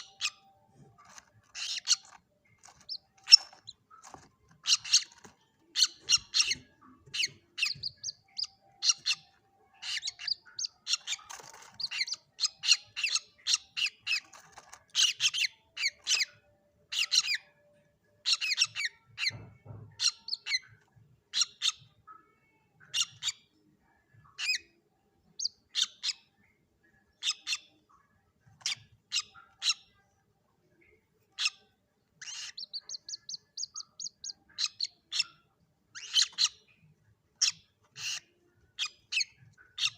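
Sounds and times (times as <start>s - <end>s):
bird chicks peeping: 0.0s - 39.9s.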